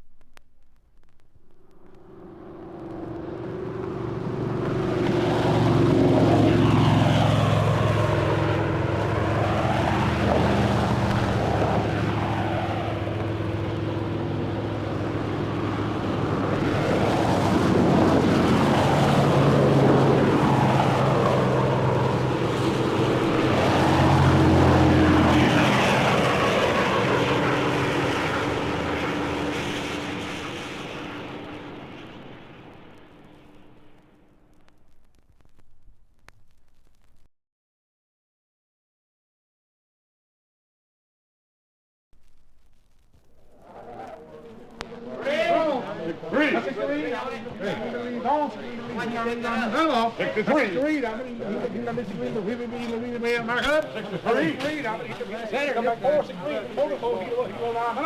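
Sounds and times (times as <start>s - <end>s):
propeller airplane engine drone: 0.0s - 35.2s, 42.2s - 58.0s.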